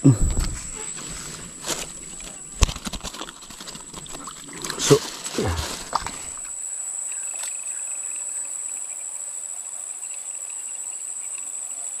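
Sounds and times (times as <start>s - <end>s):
insects trilling: 0.0s - 12.0s
rapidly pulsing insect call: 0.0s - 12.0s.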